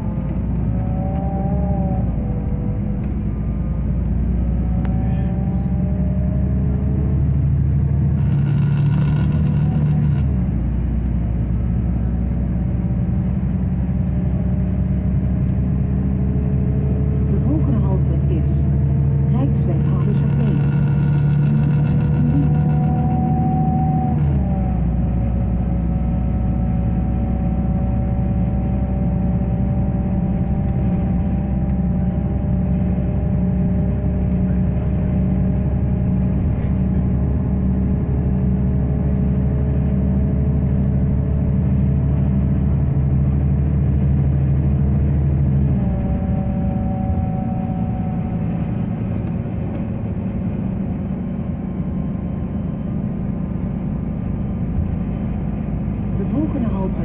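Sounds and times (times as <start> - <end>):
bus engine and drivetrain: 0.0 - 57.0
drivetrain whine climbing in pitch: 0.0 - 57.0
road noise: 0.0 - 57.0.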